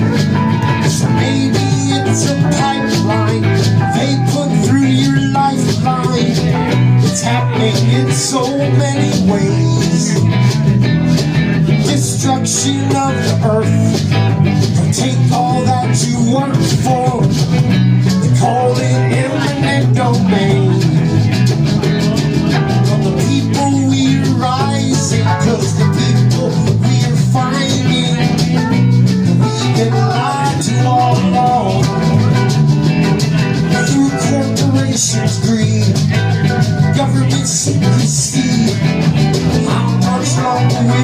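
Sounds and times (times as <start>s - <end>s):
drum kit beat: 0.0s - 41.0s
folk band playing: 0.0s - 41.0s
guitar: 0.0s - 41.0s.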